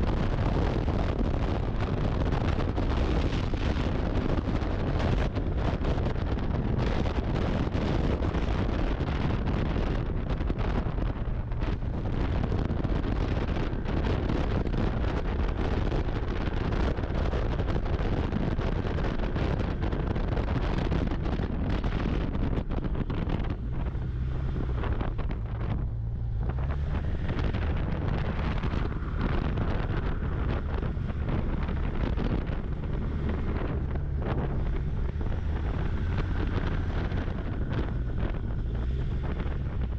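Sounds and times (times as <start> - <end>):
snowmobile engine drone: 0.0 - 39.9
wind buffeting microphone: 0.0 - 39.9.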